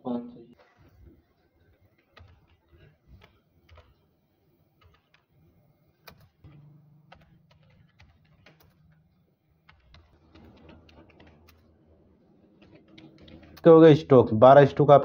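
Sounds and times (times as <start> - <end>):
faint keyboard typing: 0.6 - 14.1.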